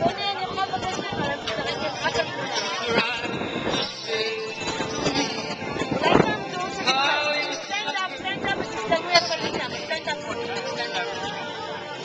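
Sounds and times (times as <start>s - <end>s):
music playing: 0.0s - 12.0s.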